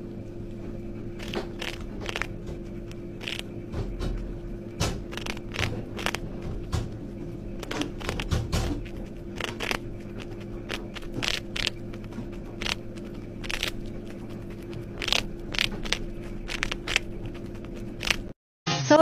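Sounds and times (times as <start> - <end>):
steady low hum: 0.0 - 18.4
chinchilla nibbling crunchy food: 0.5 - 18.3.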